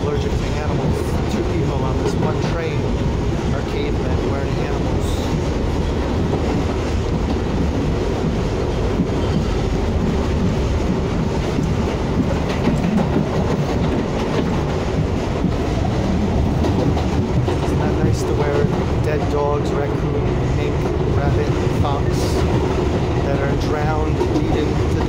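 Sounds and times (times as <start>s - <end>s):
subway train wheels on rails: 0.0s - 25.0s.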